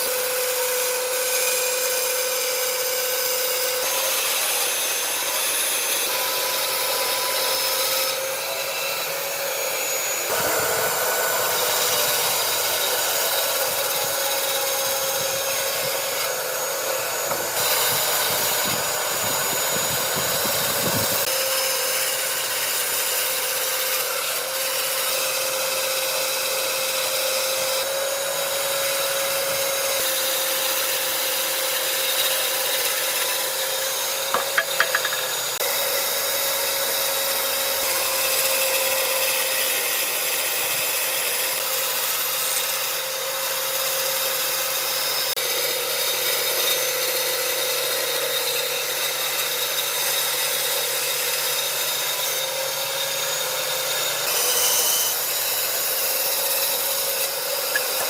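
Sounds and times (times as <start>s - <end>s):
power tool whining on wood: 0.0s - 58.0s.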